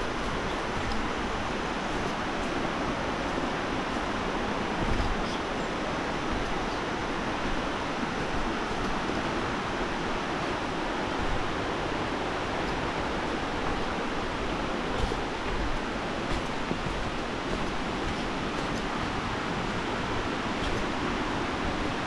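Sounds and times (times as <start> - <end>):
rushing water roar: 0.0 - 22.0.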